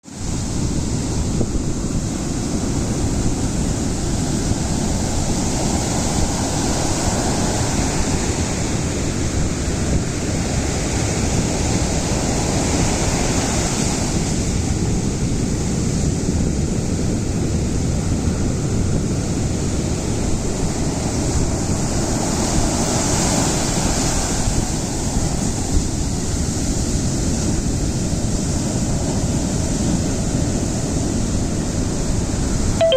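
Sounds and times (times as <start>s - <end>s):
ocean waves breaking: 0.1s - 32.9s.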